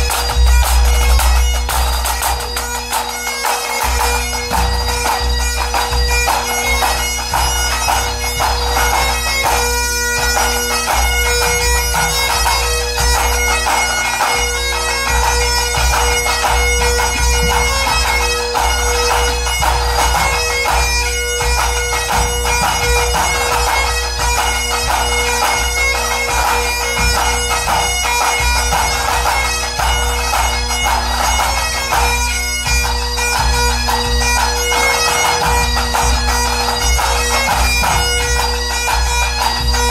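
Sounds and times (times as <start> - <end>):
bagpipes playing melody: 0.0 - 39.9
drums beating: 0.0 - 39.9.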